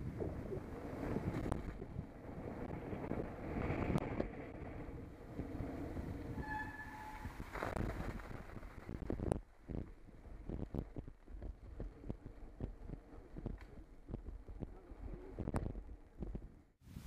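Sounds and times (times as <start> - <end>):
bike tyres rumbling on wet pavement: 0.0 - 16.6
wind on microphone: 0.0 - 17.0.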